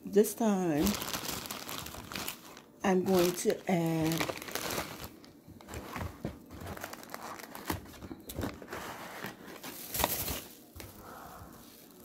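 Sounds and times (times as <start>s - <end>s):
plastic packaging crinkling: 0.7s - 12.0s.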